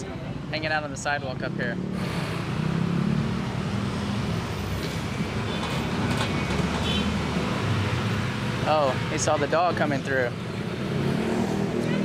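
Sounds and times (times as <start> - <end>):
motor vehicles passing: 0.0 - 12.0.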